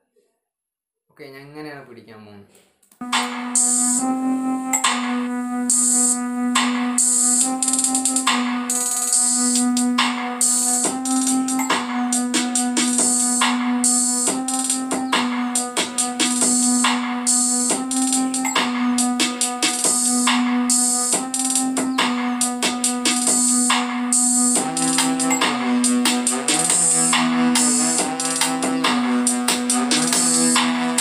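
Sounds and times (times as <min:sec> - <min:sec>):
electronic song on a speaker: 0:03.0 - 0:31.0.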